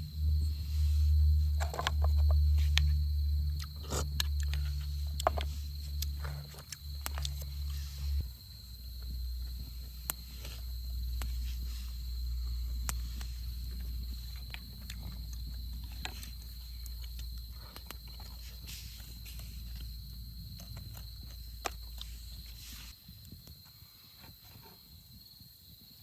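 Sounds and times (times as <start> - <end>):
low rumble: 0.0 - 22.9
campfire crackling: 0.1 - 23.4.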